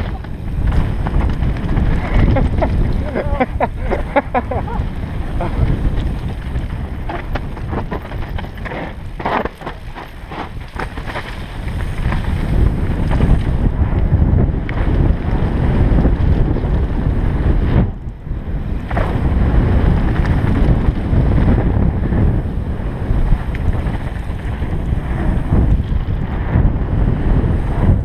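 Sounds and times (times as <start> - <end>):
bike clattering over rough ground: 0.0 - 28.0
wind rumbling on microphone: 0.0 - 28.0.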